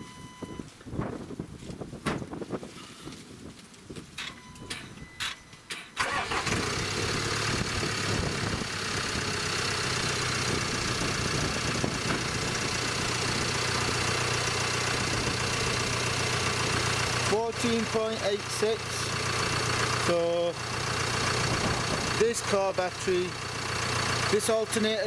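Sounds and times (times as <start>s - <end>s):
car engine starting and idling: 4.2s - 25.0s.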